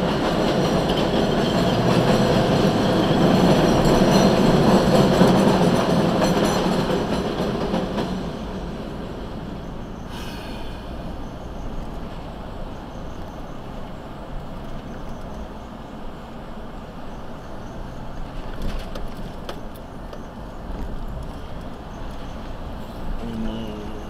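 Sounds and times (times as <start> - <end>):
train wheels rattling and squealing: 0.0 - 24.0.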